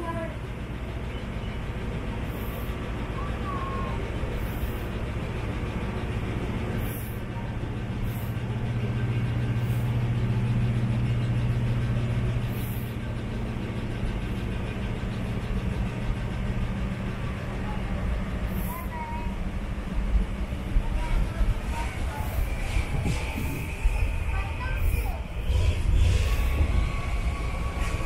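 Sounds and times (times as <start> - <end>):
diesel locomotive engine humming: 0.0 - 28.0.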